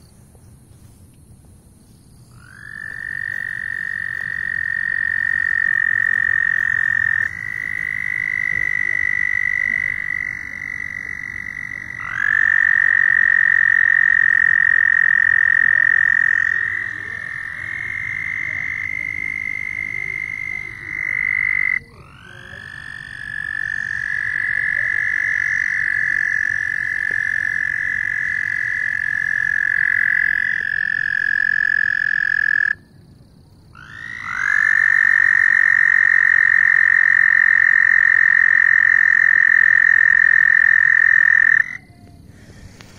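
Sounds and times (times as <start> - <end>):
toads trilling: 2.3 - 32.9, 33.7 - 42.9.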